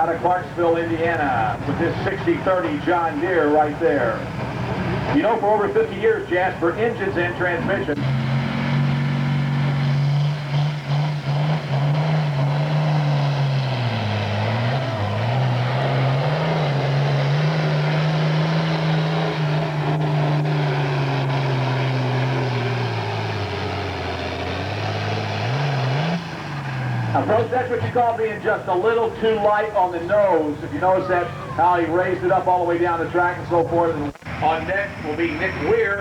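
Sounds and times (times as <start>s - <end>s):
diesel tractor engine under load: 0.0s - 36.0s.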